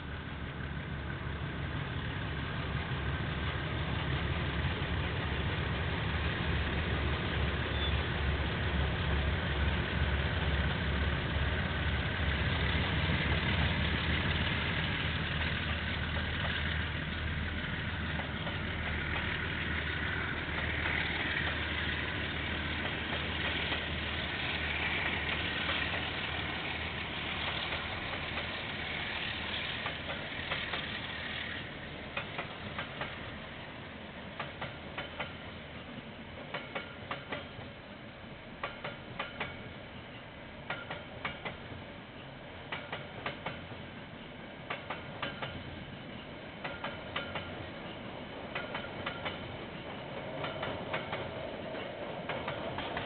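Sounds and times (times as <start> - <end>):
locomotive engine rumble: 0.0 - 53.0.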